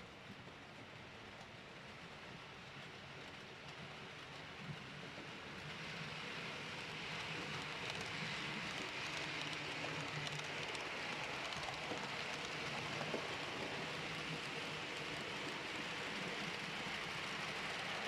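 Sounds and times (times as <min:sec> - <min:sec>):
model train wheels rolling: 0:01.3 - 0:18.0.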